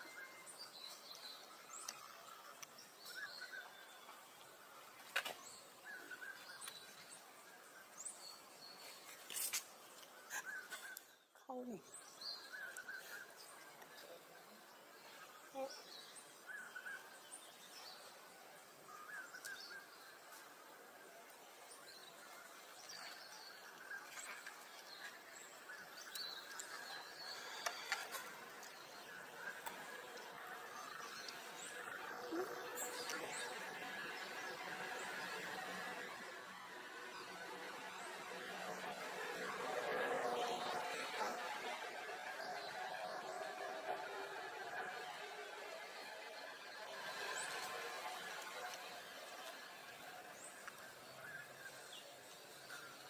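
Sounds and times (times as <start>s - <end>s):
faint outdoor ambience: 0.0s - 53.0s.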